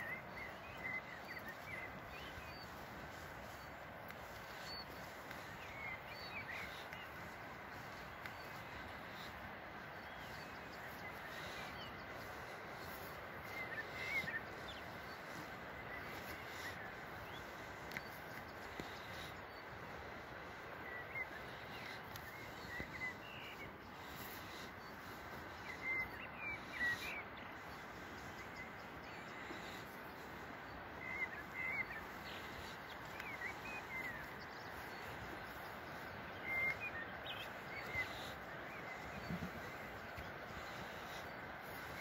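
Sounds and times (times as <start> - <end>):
small birds chirping: 0.0 - 42.0
steady outdoor hiss: 0.0 - 42.0.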